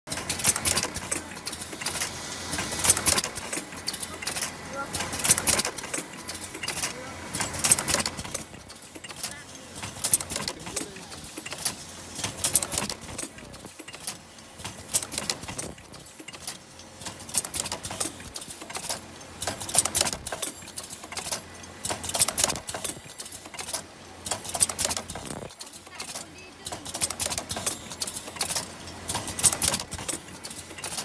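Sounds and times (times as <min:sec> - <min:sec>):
machine clicking and clattering: 0:00.1 - 0:31.0
steady mechanical background: 0:00.1 - 0:31.0.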